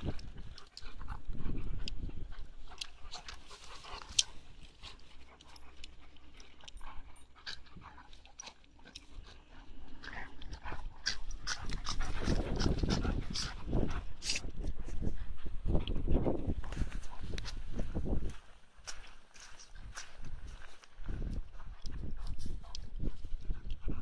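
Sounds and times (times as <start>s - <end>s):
dogs play-fighting: 0.0s - 18.4s, 19.3s - 24.0s.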